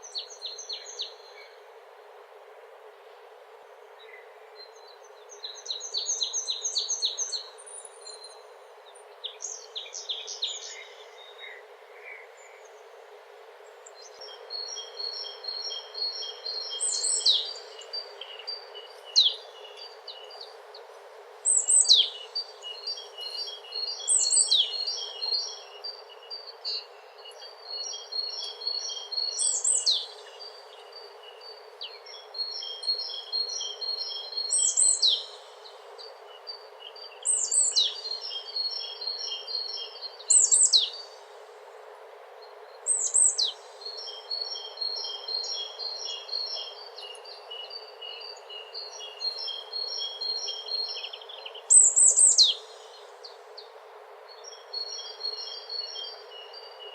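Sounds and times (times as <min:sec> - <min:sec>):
songbirds singing: 0:00.0 - 0:01.8, 0:03.7 - 0:56.9
background hiss: 0:00.0 - 0:56.9.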